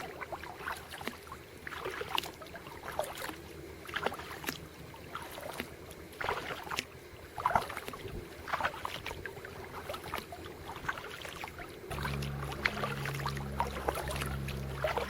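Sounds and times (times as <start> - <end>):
paddle splashing through water: 0.0 - 15.0.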